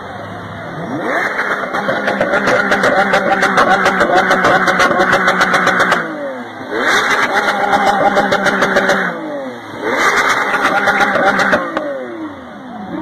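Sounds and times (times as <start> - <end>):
car engine revving hard: 0.7 - 13.0.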